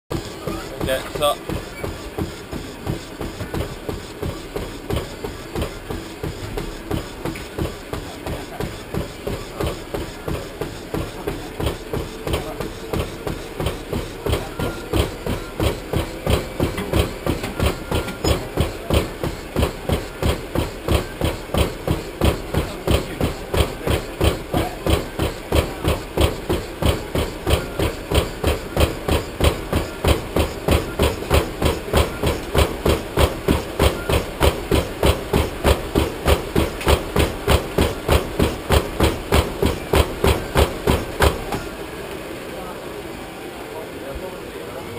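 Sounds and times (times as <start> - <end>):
footfalls on treadmill belt: 0.1 - 41.8
treadmill hum: 0.1 - 44.9.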